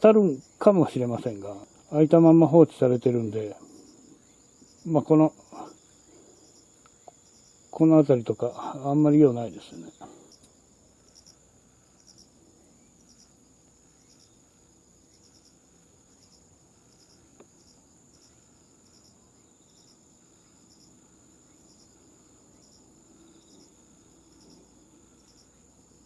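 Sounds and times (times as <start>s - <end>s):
faint cricket chirping: 0.0s - 26.0s.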